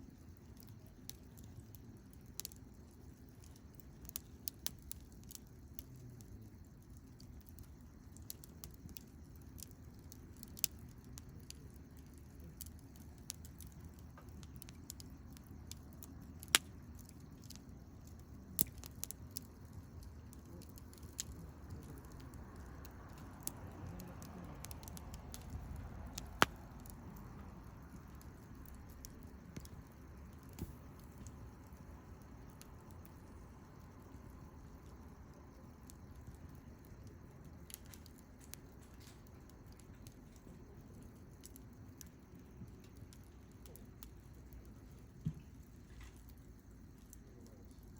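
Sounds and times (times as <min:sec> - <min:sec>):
campfire crackling and popping: 0:00.0 - 0:47.9
low steady rumble: 0:00.0 - 0:47.9.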